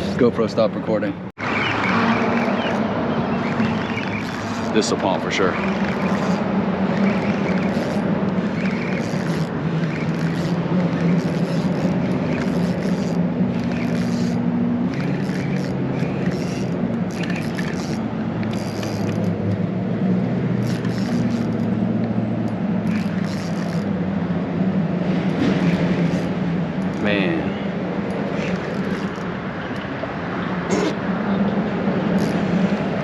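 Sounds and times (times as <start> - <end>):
low motor drone: 1.4 - 33.0
constant noisy hiss: 2.2 - 33.0.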